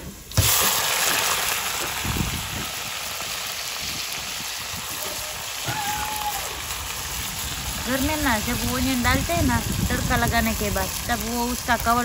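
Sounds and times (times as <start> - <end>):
onions sizzling in hot oil: 0.2 - 12.0.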